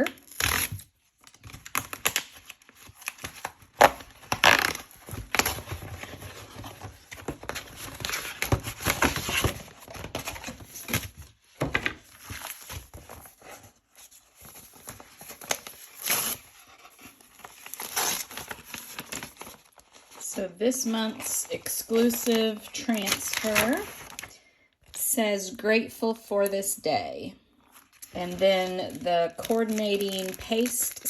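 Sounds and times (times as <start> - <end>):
packaging rustling and crinkling: 0.0 - 24.3, 27.6 - 31.0.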